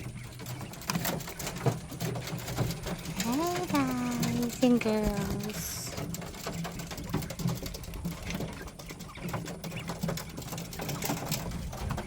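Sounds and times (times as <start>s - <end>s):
poultry pecking at feed: 0.0s - 12.0s
soft low poultry calls: 0.0s - 12.0s.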